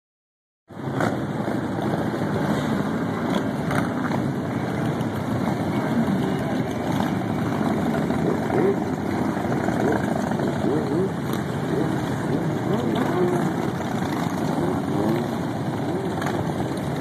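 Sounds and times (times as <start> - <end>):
motorcycle engines rolling past: 0.7 - 17.0.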